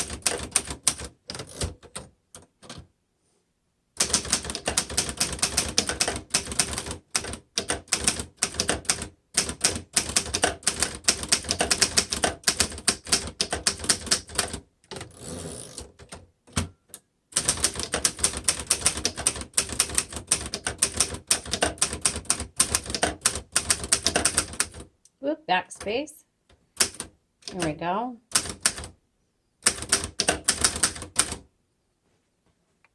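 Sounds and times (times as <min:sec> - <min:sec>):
manual typewriter typing: 0:00.0 - 0:02.8, 0:04.0 - 0:24.9, 0:26.8 - 0:29.0, 0:29.6 - 0:31.4.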